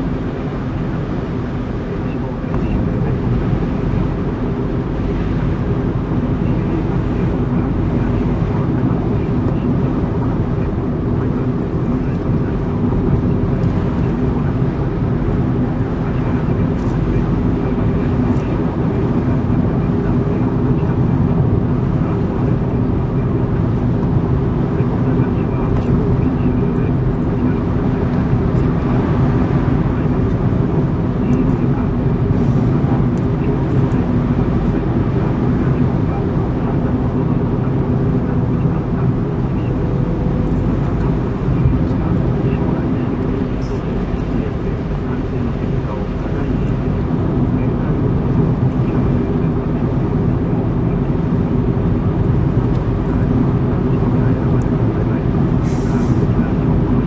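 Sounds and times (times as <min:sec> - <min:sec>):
car engine and road noise: 0:00.0 - 0:57.0
faint hum: 0:00.0 - 0:57.0.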